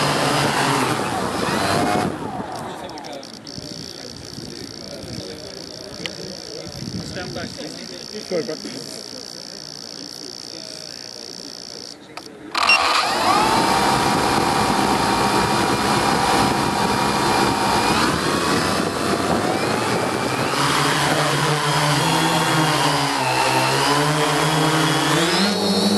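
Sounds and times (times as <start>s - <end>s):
drone electric motors whining: 0.0s - 25.9s.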